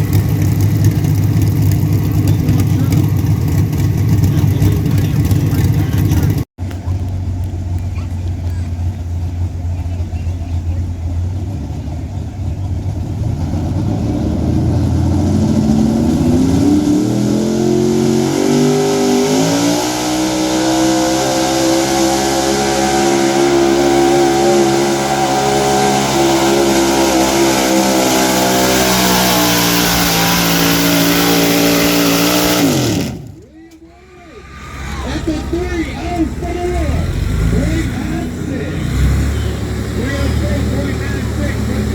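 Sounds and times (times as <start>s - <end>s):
truck engine at full throttle: 0.0s - 41.9s.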